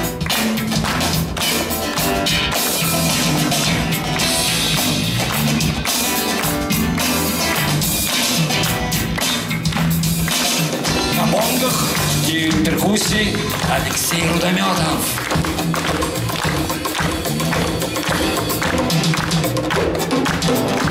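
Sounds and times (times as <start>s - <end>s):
bass guitar line: 0.0s - 20.9s
live band playing: 0.0s - 20.9s.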